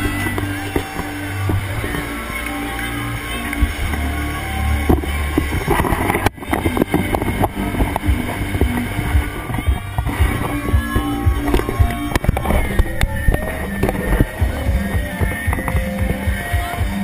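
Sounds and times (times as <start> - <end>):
deep steady rumble: 0.0 - 17.0
dense crackling and clicking: 0.0 - 17.0.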